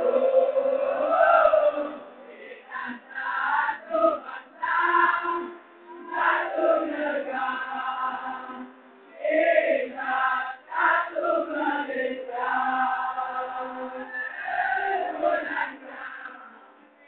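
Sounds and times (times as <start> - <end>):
group of students singing: 0.0 - 17.0.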